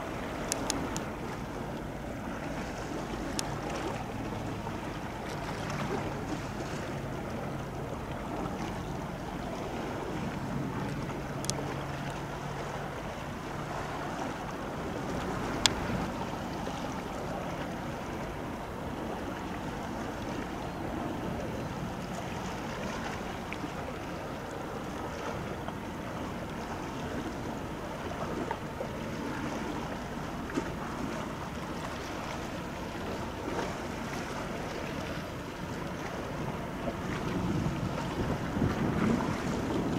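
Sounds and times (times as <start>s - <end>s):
ship wake breaking on hull: 0.0s - 39.9s
wind rumbling on microphone: 0.0s - 39.9s.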